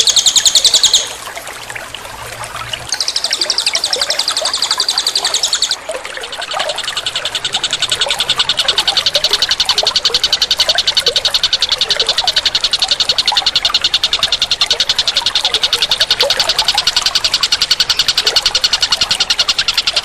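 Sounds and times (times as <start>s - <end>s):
rapid pulsing animal call: 0.0s - 1.2s, 2.8s - 20.0s.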